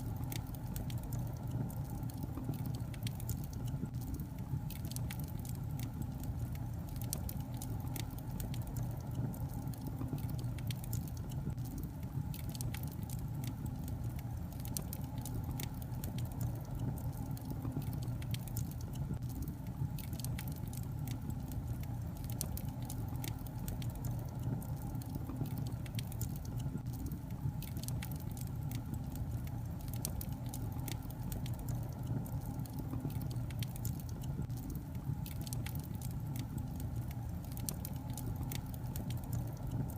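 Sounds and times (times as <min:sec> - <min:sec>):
burning wood crackling and popping: 0:00.0 - 0:39.9
flames roaring in fireplace: 0:00.0 - 0:39.9.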